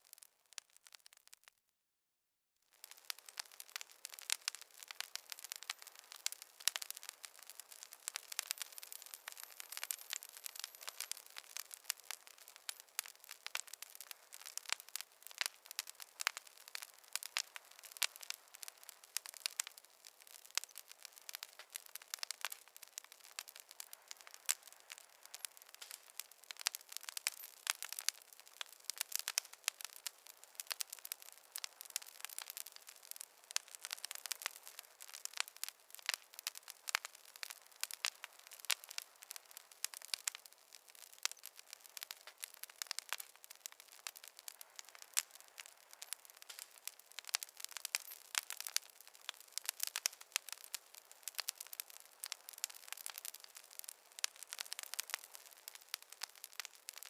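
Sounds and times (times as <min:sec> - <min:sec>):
wood fire crackling: 0:00.0 - 0:01.6, 0:02.7 - 0:57.0.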